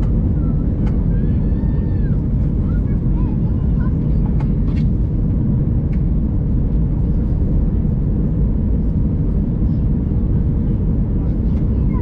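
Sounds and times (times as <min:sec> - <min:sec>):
airplane engine and airflow rumble: 0:00.0 - 0:12.0.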